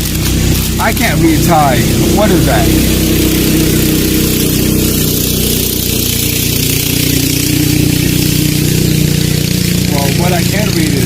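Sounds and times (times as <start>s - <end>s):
constant hiss: 0.0s - 11.0s
engine-like drone: 0.0s - 11.0s.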